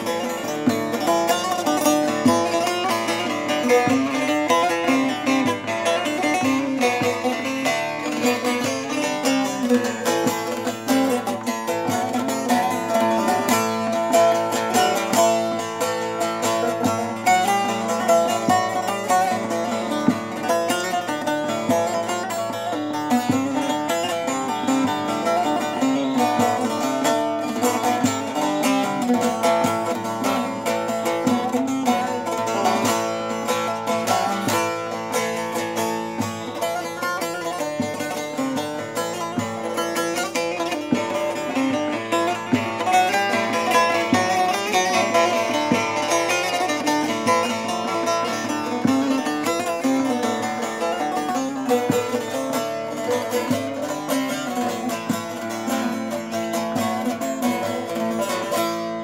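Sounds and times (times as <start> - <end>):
plucked lute melody: 0.0 - 59.0.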